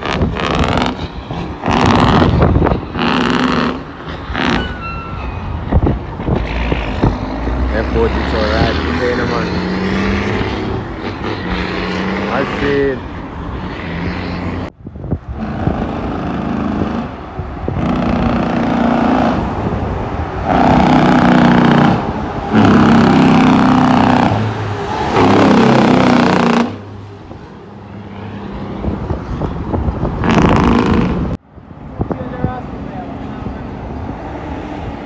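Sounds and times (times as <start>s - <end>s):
diesel truck engine under load: 0.0s - 31.8s.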